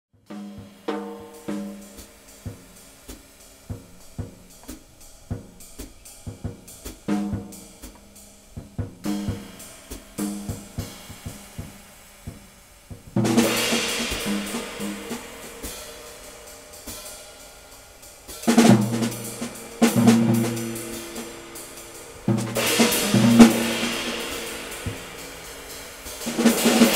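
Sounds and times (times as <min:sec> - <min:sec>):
cymbal accents: 0:00.3 - 0:26.9
loud cymbal crash: 0:00.3 - 0:26.9
snare and tom strokes: 0:00.3 - 0:26.9.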